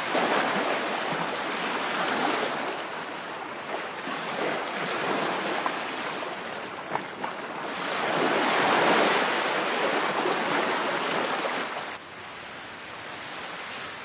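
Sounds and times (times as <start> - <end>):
ocean surf on beach: 0.0 - 14.0.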